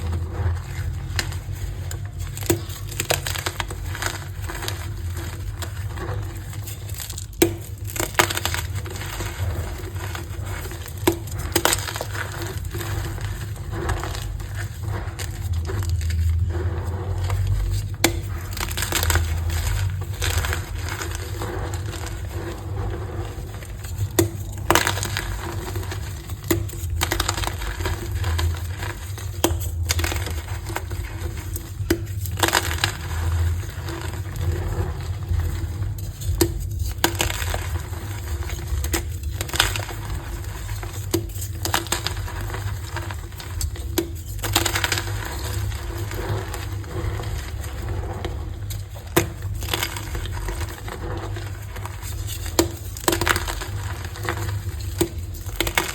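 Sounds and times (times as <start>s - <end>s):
chalk being crushed: 0.0s - 55.9s.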